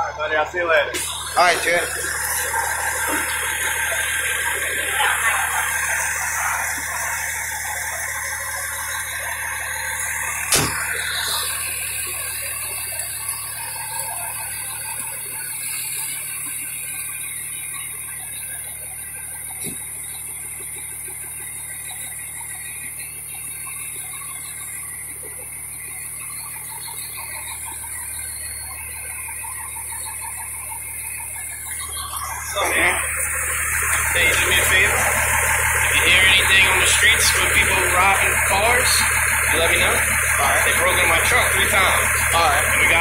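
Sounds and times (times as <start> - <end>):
fire engine idling: 0.0 - 43.0.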